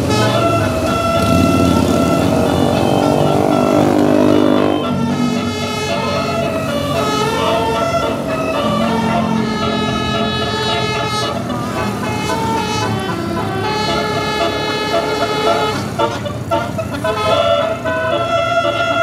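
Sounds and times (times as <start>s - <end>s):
multi-tone bus air horn tune: 0.0s - 19.0s.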